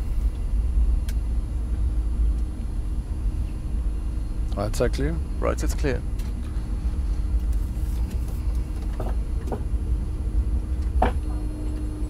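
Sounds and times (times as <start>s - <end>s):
aircraft cockpit rumble: 0.0s - 12.0s.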